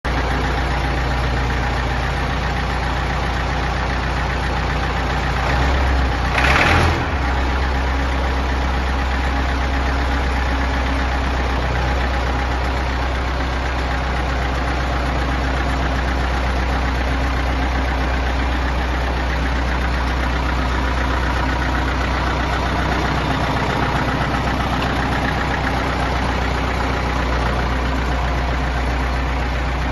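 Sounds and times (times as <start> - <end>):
tractor engine idling: 0.0 - 29.9.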